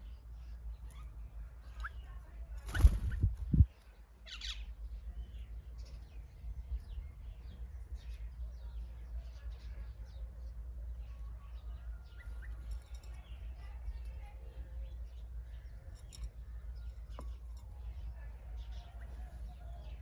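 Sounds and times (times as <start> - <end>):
low steady rumble: 0.0 - 19.9
small birds chirping: 0.0 - 20.0.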